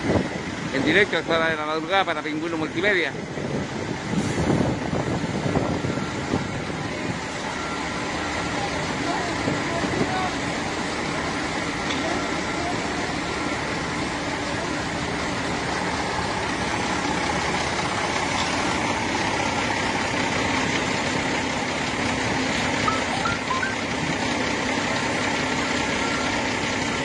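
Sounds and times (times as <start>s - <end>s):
fire engine motor idling: 0.0s - 27.0s.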